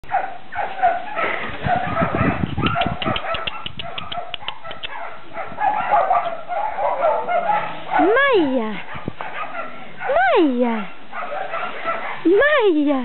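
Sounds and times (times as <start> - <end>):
dogs barking and yelping: 0.0 - 12.6.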